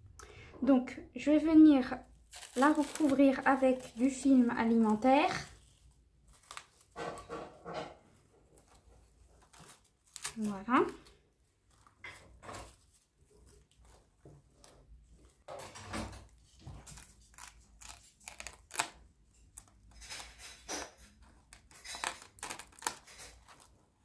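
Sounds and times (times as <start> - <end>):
cling film crinkling and rustling: 2.1 - 24.0.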